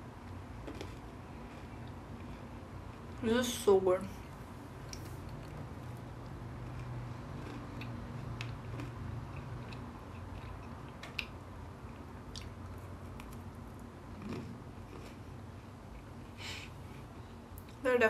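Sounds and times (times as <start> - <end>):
chewing crunchy cookie: 0.2 - 3.2, 4.8 - 16.2.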